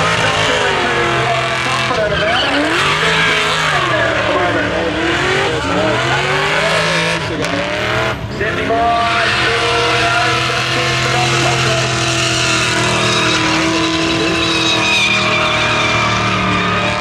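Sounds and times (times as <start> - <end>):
car engine at high revs: 0.0 - 17.0
tyres squealing: 0.0 - 17.0.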